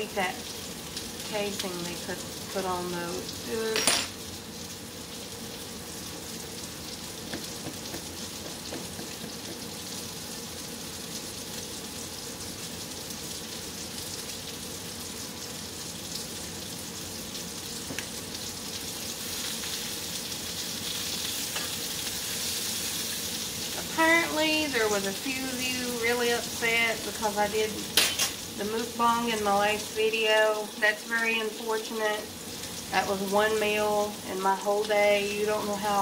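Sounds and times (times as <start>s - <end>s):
sausages sizzling in a pan: 0.0s - 36.0s.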